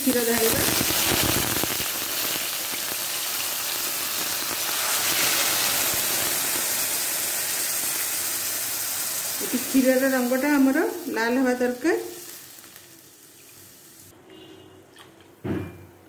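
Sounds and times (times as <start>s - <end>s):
milk sizzling in hot wok: 0.0s - 14.1s.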